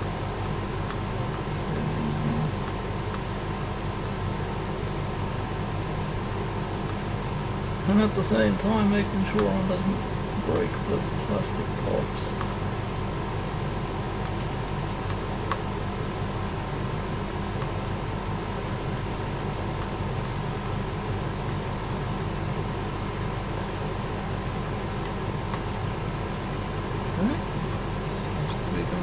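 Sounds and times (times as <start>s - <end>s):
air conditioner hum and hiss: 0.0s - 29.0s.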